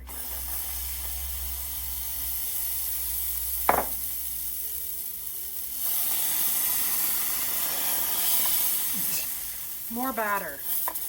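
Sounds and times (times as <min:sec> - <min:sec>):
batter sizzling on griddle: 0:00.0 - 0:11.0.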